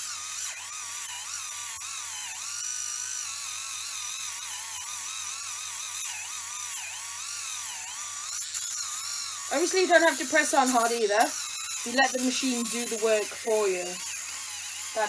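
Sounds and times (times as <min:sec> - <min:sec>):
electric callus remover whining: 0:00.0 - 0:15.0.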